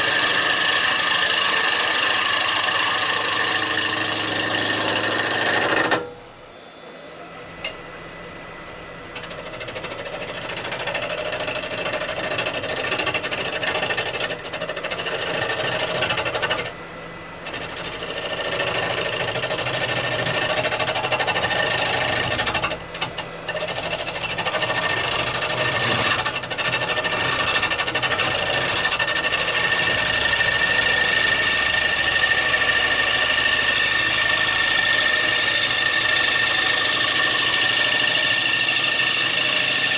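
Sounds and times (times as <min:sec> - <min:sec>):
lathe gouge cutting wood: 0:00.0 - 0:06.0, 0:09.2 - 0:16.7, 0:17.4 - 0:39.9.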